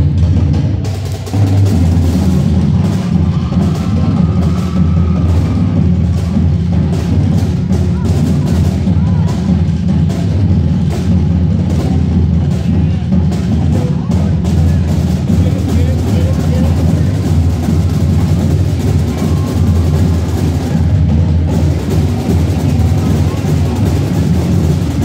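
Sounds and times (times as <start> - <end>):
marching drum line playing: 0.0 - 25.0.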